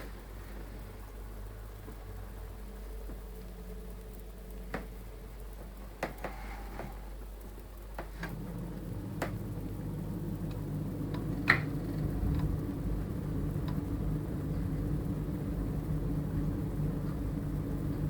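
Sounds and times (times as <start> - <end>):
boiler humming: 0.0 - 18.0.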